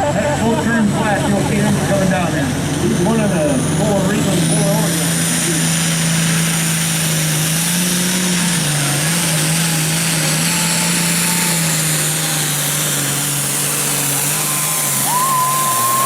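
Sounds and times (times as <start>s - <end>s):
diesel engine running hard: 0.0s - 16.0s.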